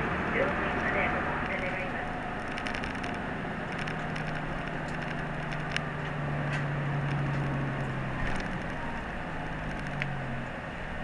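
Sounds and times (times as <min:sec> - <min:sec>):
bus engine drone: 0:00.0 - 0:11.0
interior clicks and rattles: 0:00.0 - 0:11.0
road noise: 0:00.0 - 0:11.0.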